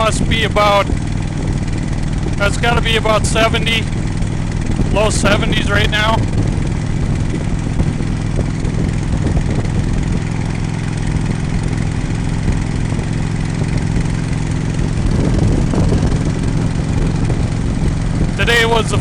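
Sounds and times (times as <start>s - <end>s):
constant rush of noise: 0.0s - 19.0s
motorcycle engine running: 0.0s - 19.0s.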